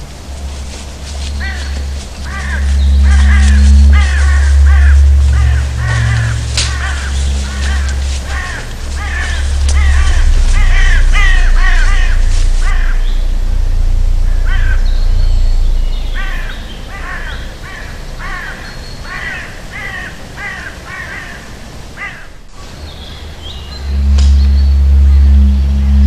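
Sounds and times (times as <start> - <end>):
deep steady rumble: 0.0 - 20.0, 22.4 - 26.0
crows cawing: 0.6 - 15.2, 15.9 - 22.4.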